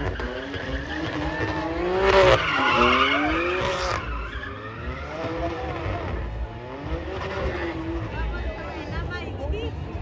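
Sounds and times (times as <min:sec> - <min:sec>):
tyres squealing and skidding: 0:00.0 - 0:08.4
car engine revving: 0:00.0 - 0:10.0.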